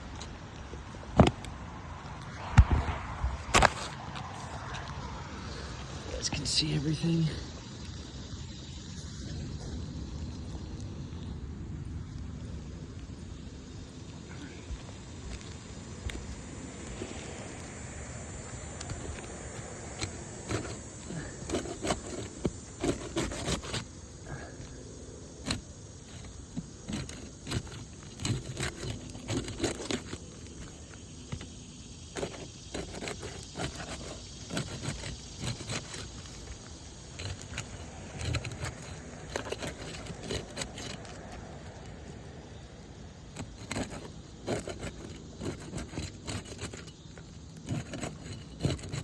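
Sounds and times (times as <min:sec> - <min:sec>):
roof shingles clicking and scraping: 0:00.0 - 0:06.6, 0:15.1 - 0:49.0.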